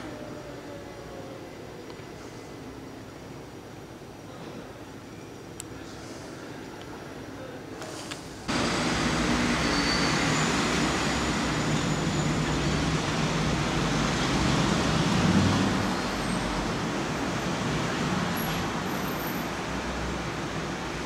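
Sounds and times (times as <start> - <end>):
road traffic rumble and hiss: 0.0 - 21.0.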